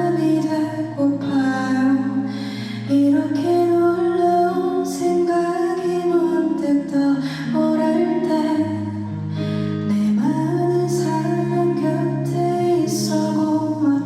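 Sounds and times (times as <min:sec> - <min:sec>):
woman singing long notes: 0:00.0 - 0:09.2, 0:09.8 - 0:14.0
soft musical accompaniment: 0:00.0 - 0:14.0.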